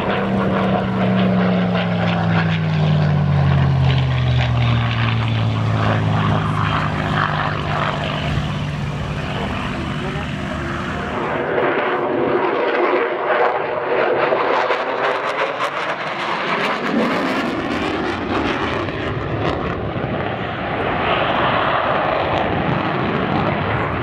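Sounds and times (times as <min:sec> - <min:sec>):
fighter jet passing: 0:00.0 - 0:24.0.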